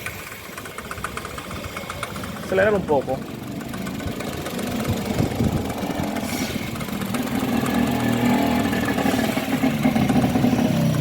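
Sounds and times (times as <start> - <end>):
car engine revving: 1.8 - 11.0.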